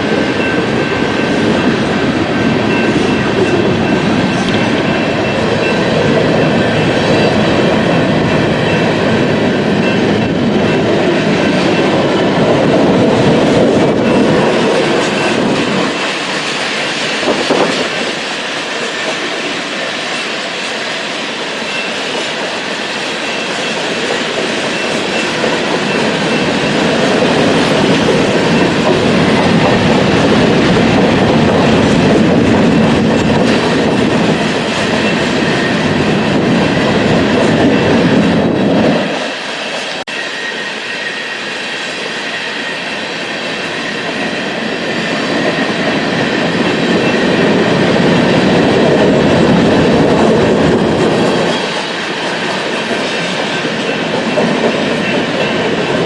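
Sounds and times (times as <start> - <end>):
freight train wheels clattering: 0.0 - 40.2, 40.9 - 56.0.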